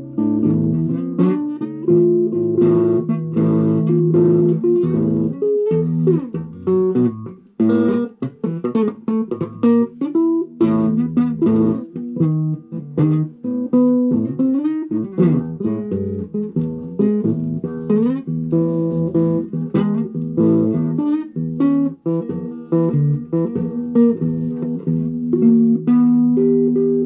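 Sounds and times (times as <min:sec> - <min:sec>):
electric guitar single notes: 0:00.0 - 0:27.0.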